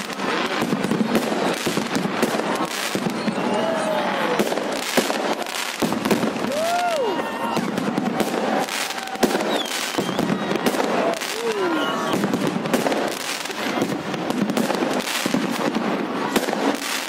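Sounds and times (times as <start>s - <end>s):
firework bangs: 0.0s - 17.0s
firework crackle: 0.0s - 17.0s.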